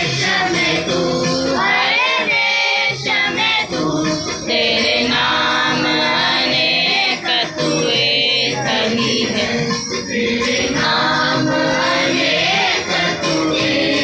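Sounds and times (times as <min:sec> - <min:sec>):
group singing with music: 0:00.0 - 0:14.0.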